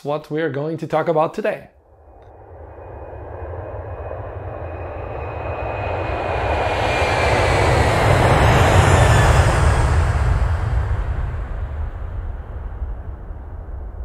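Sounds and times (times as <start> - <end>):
high whine: 1.8 - 14.0
jet engine rumble: 1.9 - 14.0.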